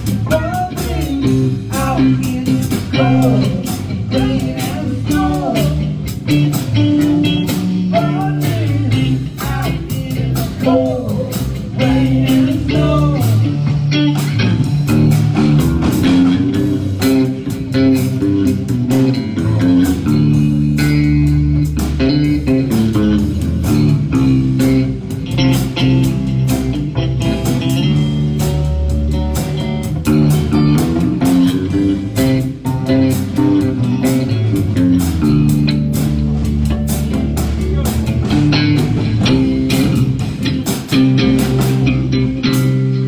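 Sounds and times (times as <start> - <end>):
drums steady beat: 0.0 - 43.0
electric bass: 0.0 - 43.0
guitars: 0.0 - 43.0.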